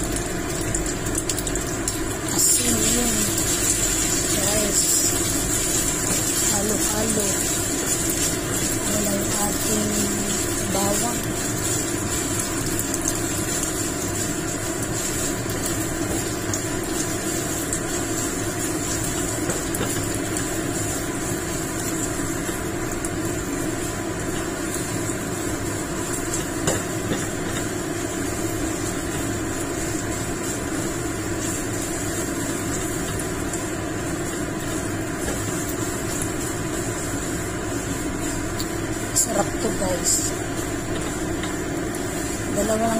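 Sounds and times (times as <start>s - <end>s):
motor humming: 1.2s - 42.9s.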